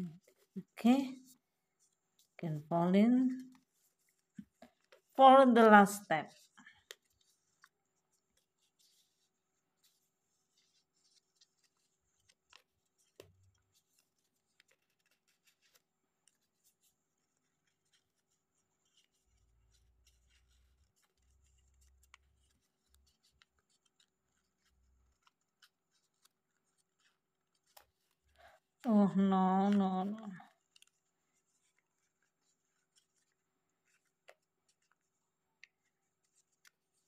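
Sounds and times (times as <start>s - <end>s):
paper rustling and creasing: 6.2s - 37.0s.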